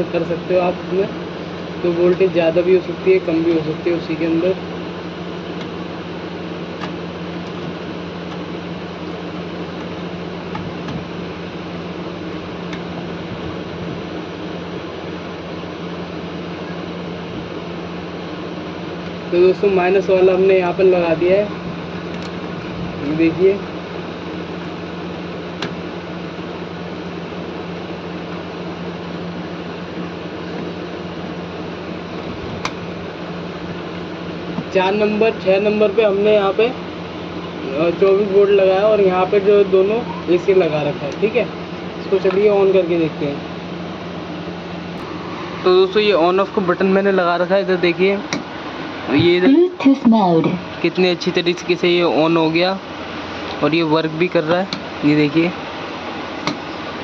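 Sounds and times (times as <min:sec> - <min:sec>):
fan-like hum and hiss: 0:00.0 - 0:57.0.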